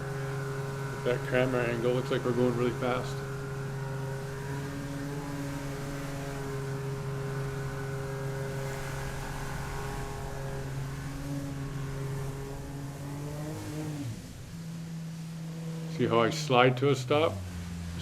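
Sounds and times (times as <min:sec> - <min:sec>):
boat jet motor running: 0:00.0 - 0:18.0.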